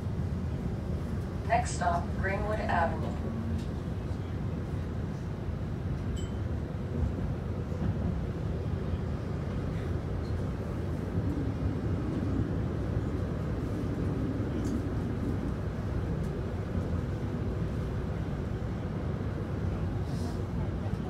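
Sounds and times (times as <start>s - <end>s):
streetcar rumbling: 0.0s - 21.0s.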